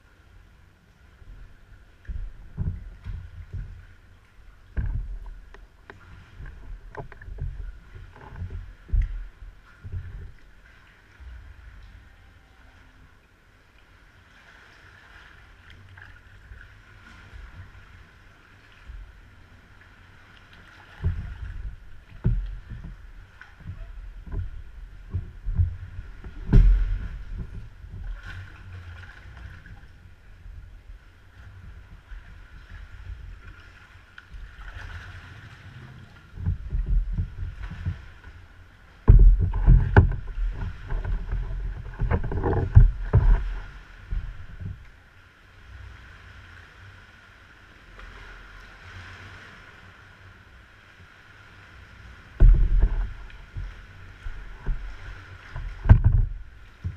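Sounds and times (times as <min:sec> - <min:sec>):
paddle splashes: 0:00.0 - 0:56.9
water slapping against hull: 0:01.0 - 0:12.1, 0:14.3 - 0:45.1, 0:51.5 - 0:56.9.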